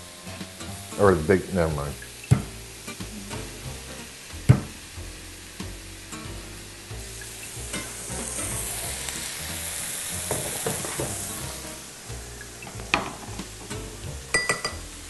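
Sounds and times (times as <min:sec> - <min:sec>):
chicken sizzling on a grill: 0:00.0 - 0:15.0.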